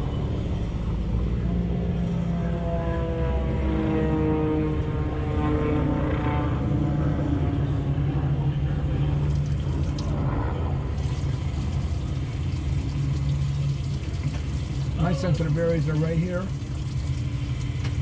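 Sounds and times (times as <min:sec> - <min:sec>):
engine rumbling steadily: 0:00.0 - 0:18.0.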